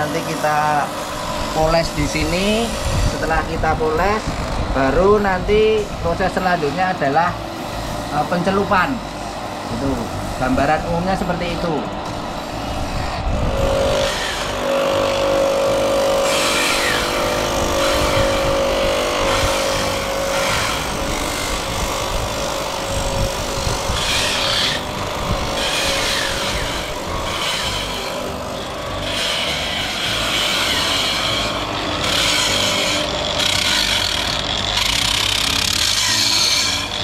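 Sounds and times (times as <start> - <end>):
abrasive wheel grinding metal: 0.0 - 37.0
electric motor hum: 0.0 - 37.0.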